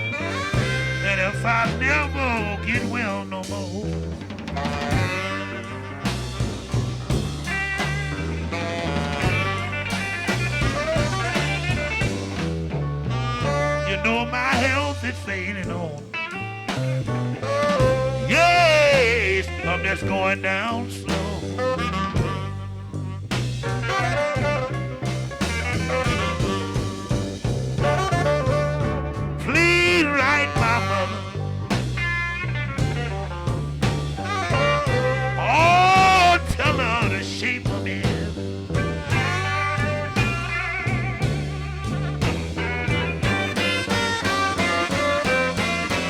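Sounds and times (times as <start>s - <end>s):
blues band playing: 0.0s - 46.0s.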